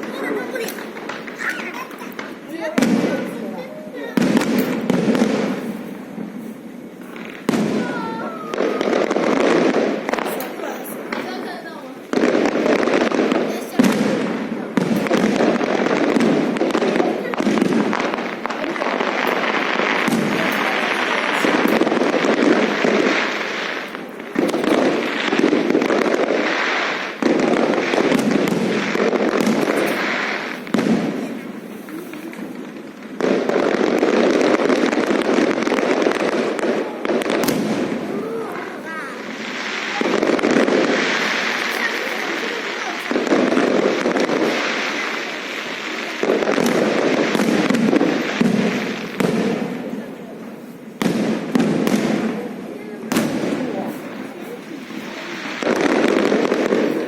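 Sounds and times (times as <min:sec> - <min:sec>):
fireworks crackling barrage: 0:00.0 - 0:57.0.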